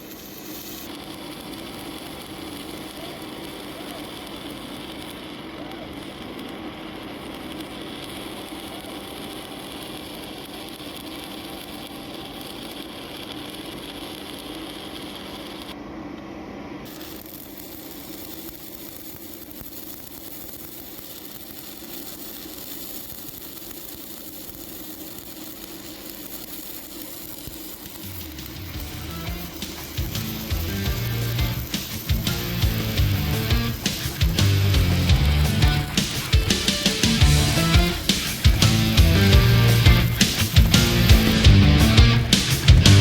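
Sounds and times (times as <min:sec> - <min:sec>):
welding arc hissing and crackling: 0:00.0 - 0:43.0.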